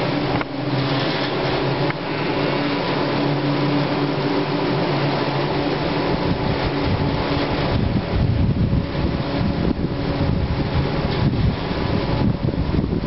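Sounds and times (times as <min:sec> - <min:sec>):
cable car mechanical hum: 0:00.0 - 0:13.0
wind noise: 0:00.0 - 0:13.0.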